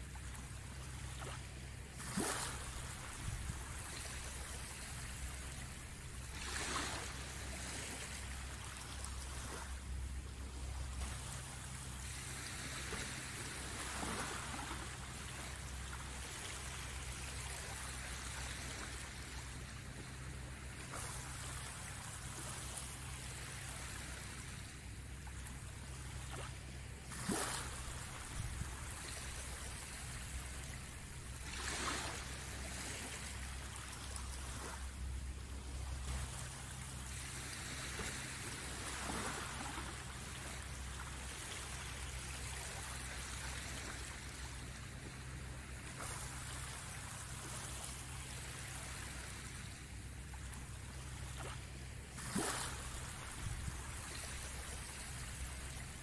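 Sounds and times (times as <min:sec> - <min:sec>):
low steady rumble: 0:00.0 - 0:56.0
small waves lapping on shore: 0:00.0 - 0:56.0.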